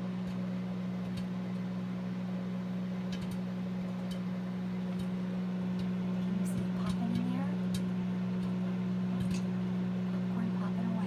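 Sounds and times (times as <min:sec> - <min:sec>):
microwave oven humming: 0:00.0 - 0:11.0
popcorn kernels popping: 0:00.1 - 0:01.7, 0:03.0 - 0:10.3.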